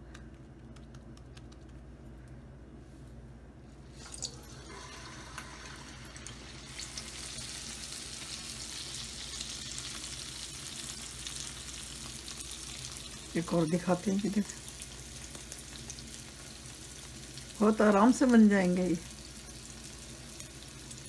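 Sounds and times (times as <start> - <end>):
hot oil sizzling and crackling: 4.0 - 21.0.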